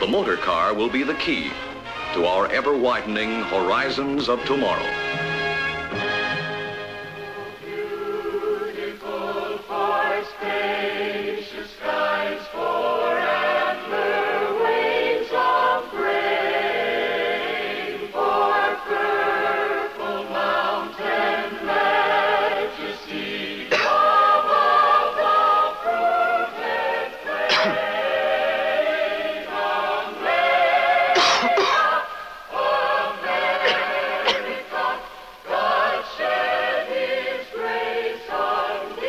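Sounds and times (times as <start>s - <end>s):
mixed choir singing: 5.9s - 39.0s.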